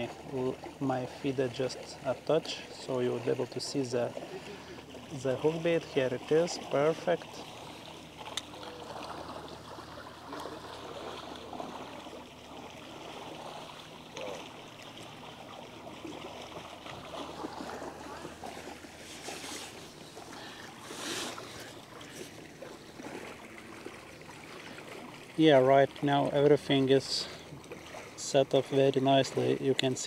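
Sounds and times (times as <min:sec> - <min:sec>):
faint rushing water: 0:00.0 - 0:30.0.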